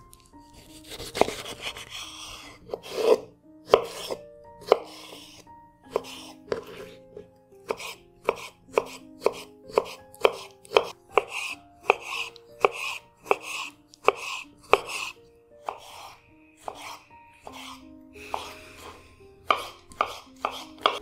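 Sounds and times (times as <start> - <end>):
knife chopping on cutting board: 0.8 - 1.8, 2.7 - 7.0, 7.6 - 21.0.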